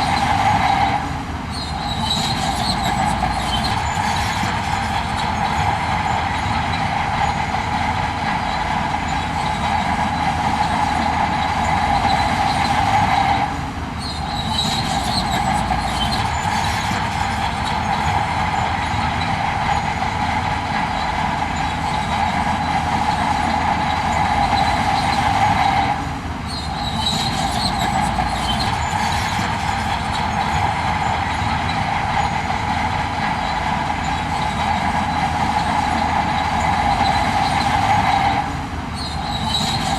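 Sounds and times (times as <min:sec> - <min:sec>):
earthmoving machinery droning: 0:00.0 - 0:39.9.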